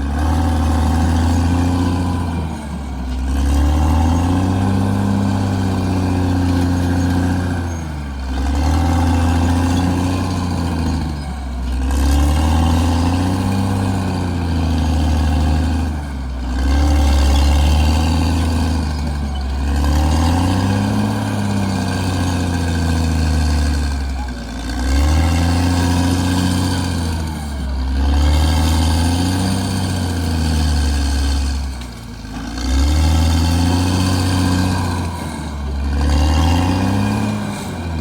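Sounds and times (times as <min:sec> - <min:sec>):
bulldozer diesel engine under load: 0:00.0 - 0:38.0.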